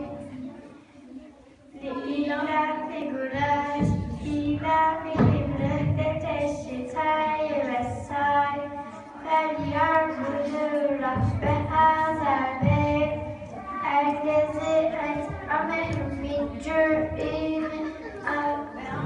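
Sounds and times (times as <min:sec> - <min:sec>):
girl chanting: 0:01.8 - 0:19.0.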